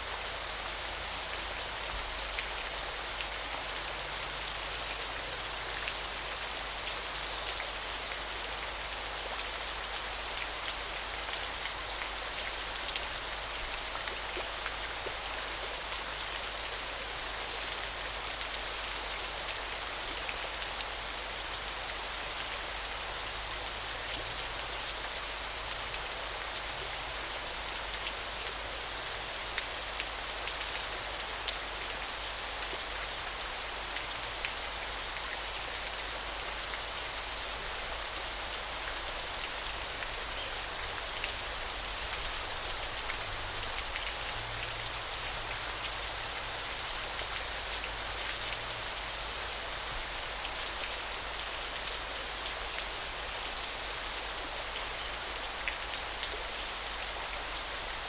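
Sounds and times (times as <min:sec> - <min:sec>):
flowing river water: 0:00.0 - 0:58.0.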